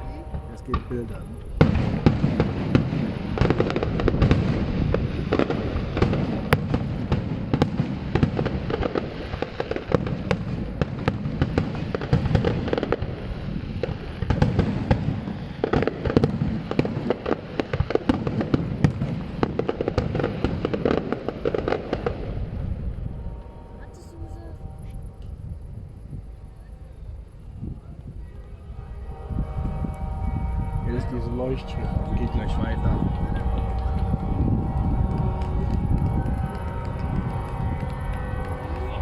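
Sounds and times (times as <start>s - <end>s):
fireworks bursting and cracking: 0.0s - 26.2s, 27.2s - 39.0s
low rumble: 0.0s - 39.0s.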